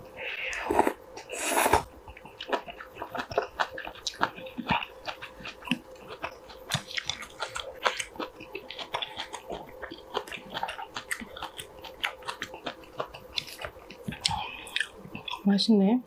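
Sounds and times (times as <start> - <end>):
wet mouth chewing: 0.4 - 15.4.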